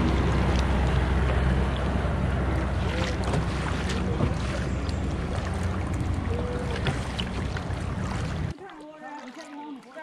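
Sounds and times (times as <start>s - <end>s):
outboard motor running: 0.0s - 8.5s
boat wake washing: 0.0s - 10.0s.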